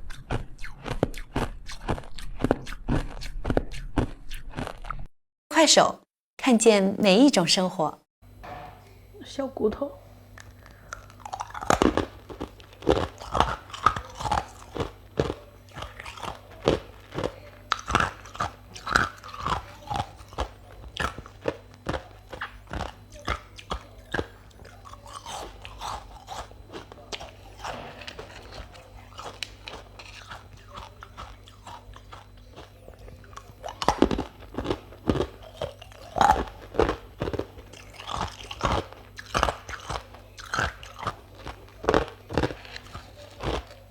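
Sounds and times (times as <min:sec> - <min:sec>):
crunchy chewing: 0:00.0 - 0:05.1, 0:10.3 - 0:43.9.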